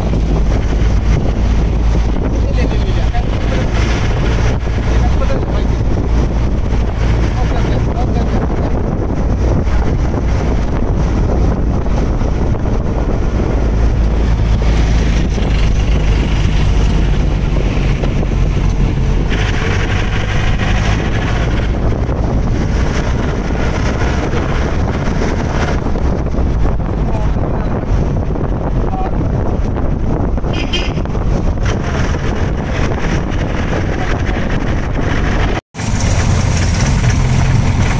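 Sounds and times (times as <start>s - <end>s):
car engine and tyre drone: 0.0s - 37.9s
wind buffeting microphone: 0.0s - 37.9s.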